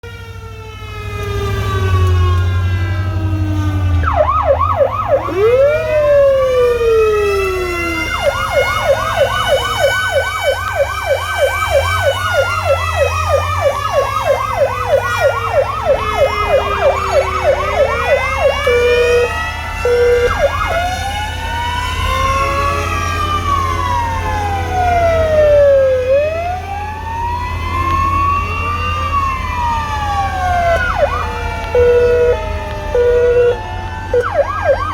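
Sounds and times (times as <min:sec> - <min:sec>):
emergency vehicle sirens wailing: 0:00.0 - 0:34.9
low engine hum: 0:00.0 - 0:34.9
siren yelp: 0:00.0 - 0:34.9.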